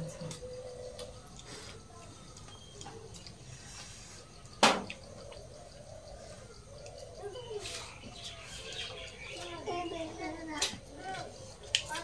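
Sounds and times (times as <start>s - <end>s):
people eating from steel plates: 0.0s - 12.0s.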